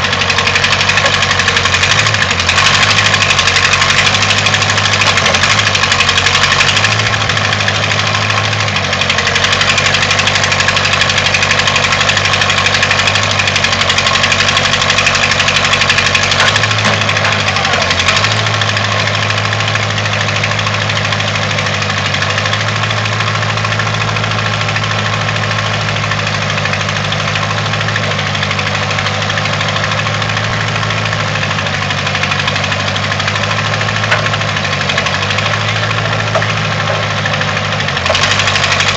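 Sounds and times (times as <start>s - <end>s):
backhoe engine running: 0.0s - 38.9s.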